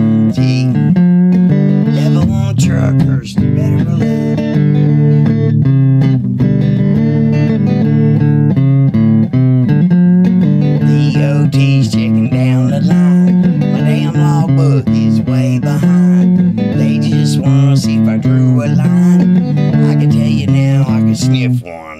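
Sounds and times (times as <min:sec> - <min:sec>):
guitar music with bass: 0:00.0 - 0:21.9.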